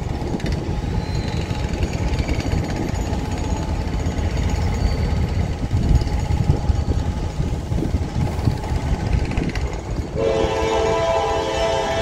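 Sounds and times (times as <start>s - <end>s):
diesel locomotive approaching: 0.0s - 12.0s
wind buffeting microphone: 0.0s - 12.0s.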